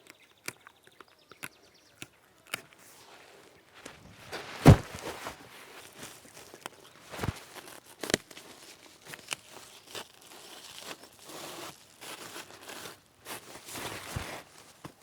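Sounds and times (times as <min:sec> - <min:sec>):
leaves and sticks rustling: 0:02.0 - 0:15.0.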